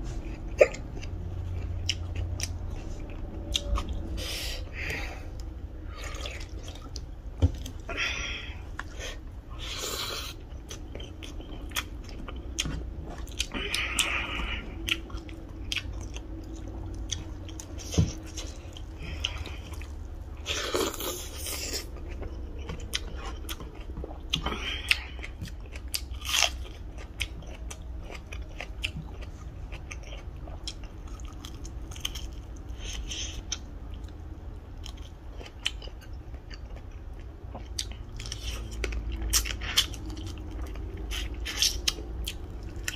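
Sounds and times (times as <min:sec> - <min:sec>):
low hum: 0:00.0 - 0:42.9
chewing with wet mouth clicks: 0:00.5 - 0:04.1, 0:05.4 - 0:07.8, 0:10.3 - 0:42.9
food crunching: 0:04.8 - 0:42.9.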